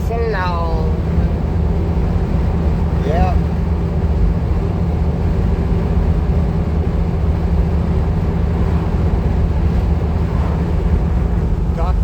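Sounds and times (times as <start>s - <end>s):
road noise: 0.0s - 12.0s
van engine drone: 0.0s - 12.0s.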